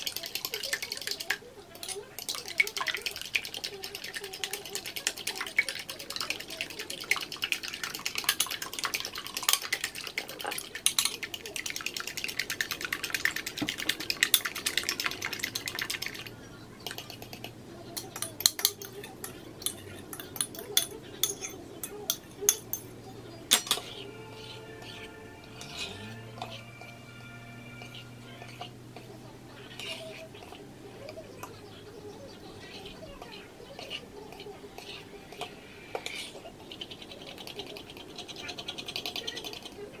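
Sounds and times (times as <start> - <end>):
fork beating eggs in bowl: 0.0 - 40.0.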